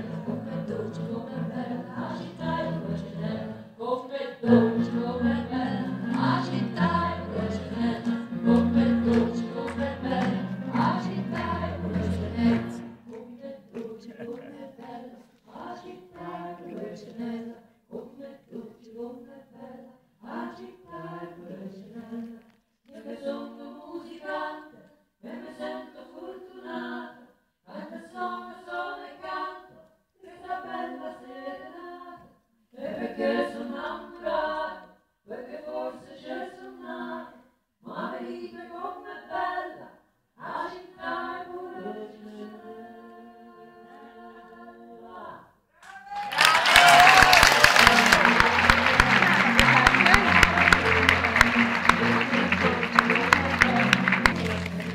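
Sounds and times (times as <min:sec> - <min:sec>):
woman singing unaccompanied: 0:00.0 - 0:45.5.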